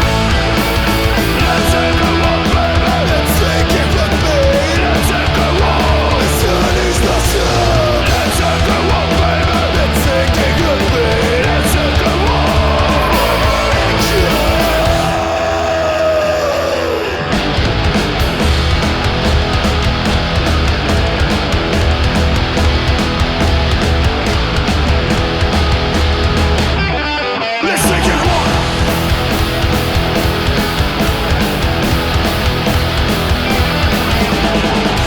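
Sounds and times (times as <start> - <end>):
punk rock band playing: 0.0 - 35.0.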